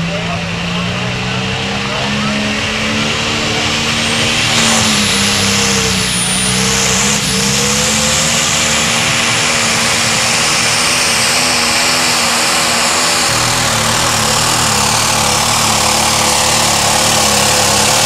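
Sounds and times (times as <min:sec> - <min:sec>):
diesel engine droning at full throttle: 0:00.0 - 0:18.0.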